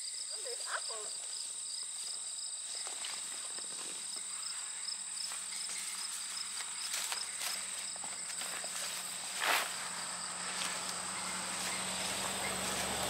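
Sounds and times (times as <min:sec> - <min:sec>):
field insects trilling: 0:00.0 - 0:13.0
footsteps brushing through tall grass: 0:01.3 - 0:13.0.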